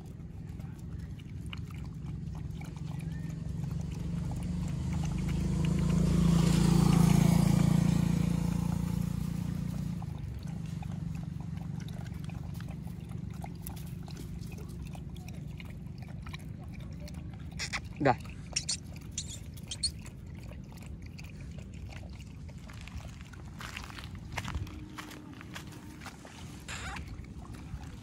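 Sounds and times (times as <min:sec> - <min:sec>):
dogs lapping milk: 0:00.0 - 0:28.0.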